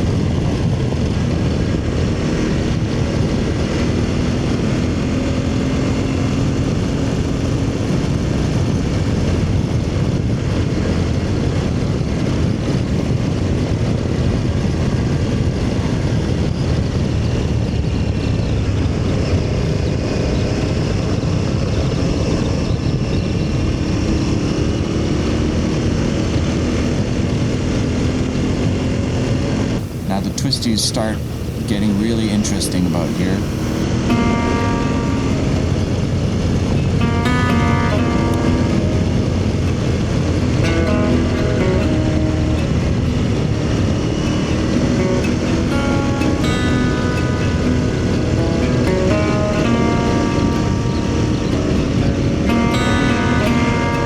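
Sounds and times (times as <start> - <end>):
motorcycle engine drone: 0.0 - 54.0.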